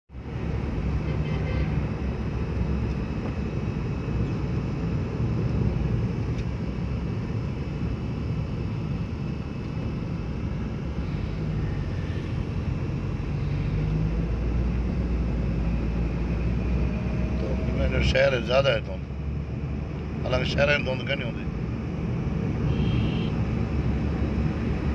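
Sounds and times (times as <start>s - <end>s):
vehicle engine and road rumble: 0.1s - 24.9s.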